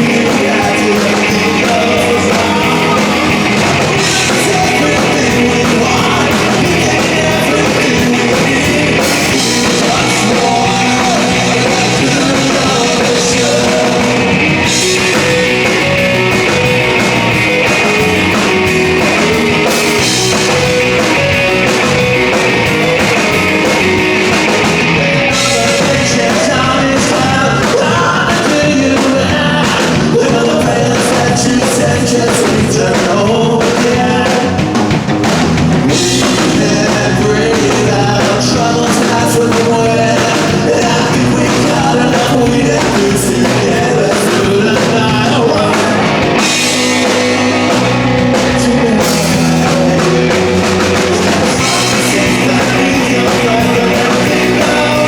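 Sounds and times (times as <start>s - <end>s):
person singing: 0.0s - 24.0s, 24.6s - 34.8s, 35.8s - 55.0s
rock band playing: 0.0s - 55.0s.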